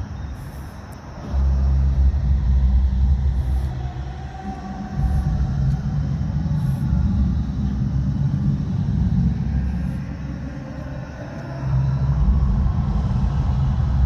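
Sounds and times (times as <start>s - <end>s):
distant party music bass rumble: 0.0s - 14.0s.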